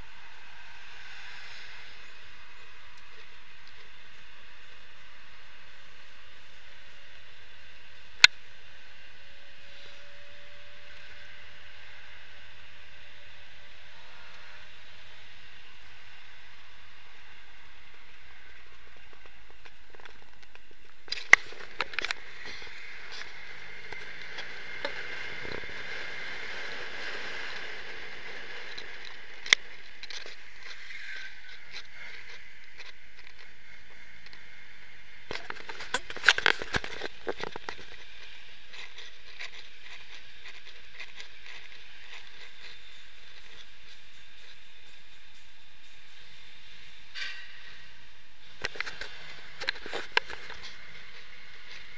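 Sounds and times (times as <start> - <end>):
wind and road noise hiss: 0.0 - 51.9.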